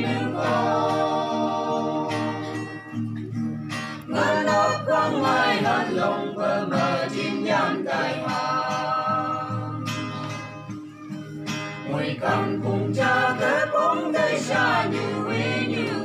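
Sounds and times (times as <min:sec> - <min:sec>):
group singing gospel song: 0:00.0 - 0:02.9, 0:04.0 - 0:10.4, 0:11.8 - 0:16.0
acoustic guitar: 0:00.0 - 0:16.0.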